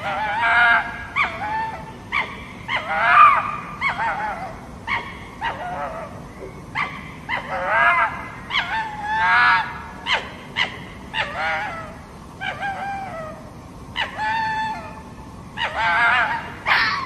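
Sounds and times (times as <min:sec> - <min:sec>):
fox yelping: 0:00.0 - 0:15.0, 0:15.6 - 0:17.0.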